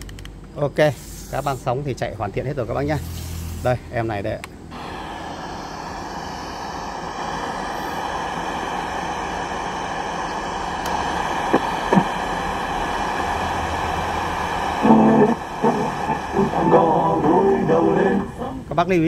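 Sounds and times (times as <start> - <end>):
radio static hiss: 0.8 - 1.8, 4.7 - 18.9.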